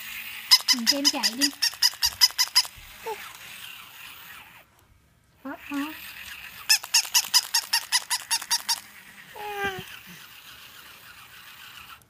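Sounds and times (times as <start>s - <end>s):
toy puppy yapping: 0.4s - 4.6s, 5.6s - 12.0s.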